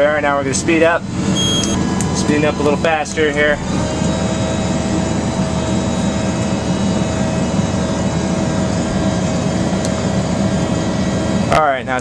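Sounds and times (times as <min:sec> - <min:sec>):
tractor engine running: 0:00.0 - 0:11.5
steady whine: 0:00.0 - 0:12.0.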